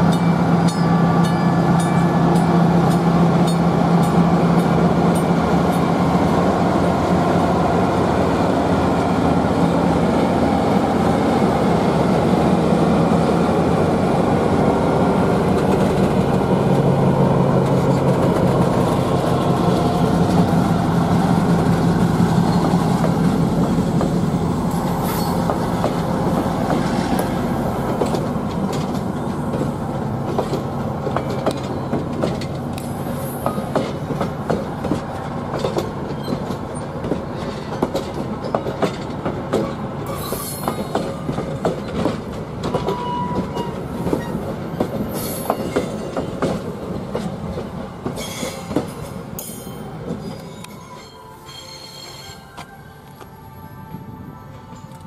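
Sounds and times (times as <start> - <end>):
train wheels rumbling over rails: 0.0 - 50.8.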